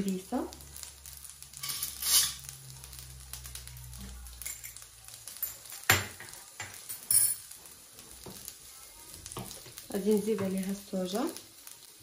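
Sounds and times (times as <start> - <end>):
noodles sizzling in a frying pan: 0.0 - 12.0.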